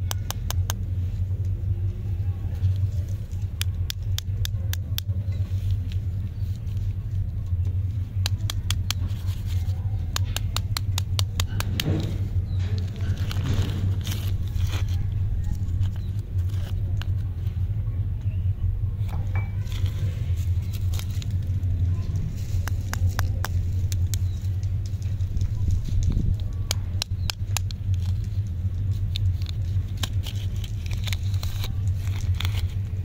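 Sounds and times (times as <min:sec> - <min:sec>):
steady low rumble: 0:00.0 - 0:33.0
plastic wrappers crinkling: 0:02.6 - 0:17.5, 0:19.6 - 0:33.0.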